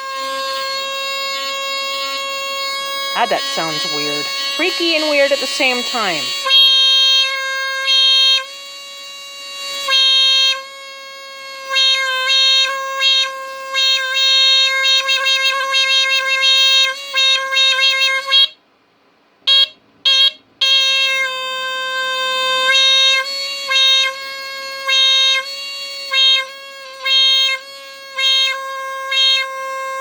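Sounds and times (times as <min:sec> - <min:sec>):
smoke detector horn tone: 0:00.0 - 0:18.6, 0:19.5 - 0:30.0.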